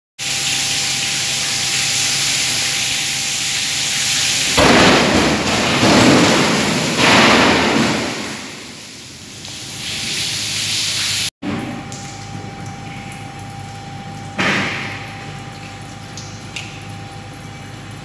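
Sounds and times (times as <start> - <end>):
water pouring and splashing: 0.2 - 18.0.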